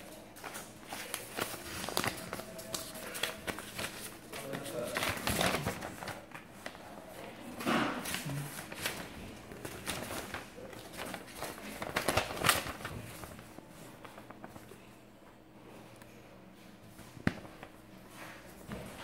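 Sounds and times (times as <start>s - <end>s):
paper rustling and crinkling: 0.0s - 15.0s, 16.6s - 19.0s.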